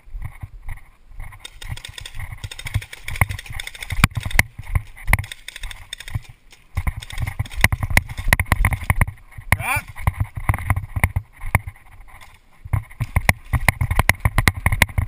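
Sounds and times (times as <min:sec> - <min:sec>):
running footsteps on grass: 0:00.0 - 0:15.0.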